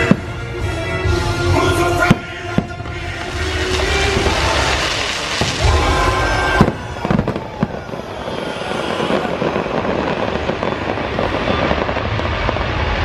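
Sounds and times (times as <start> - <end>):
aerial fireworks crackling: 2.1 - 13.0.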